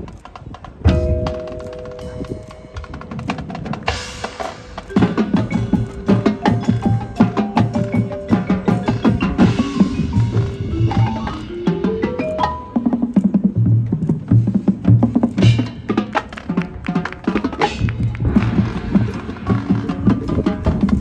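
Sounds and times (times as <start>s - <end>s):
marching band percussion: 0.0s - 21.0s.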